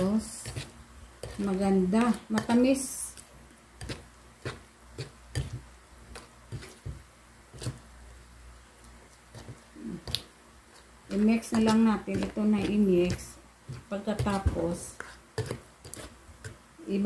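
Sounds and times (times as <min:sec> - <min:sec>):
spoon stirring batter in bowl: 0:00.0 - 0:17.0.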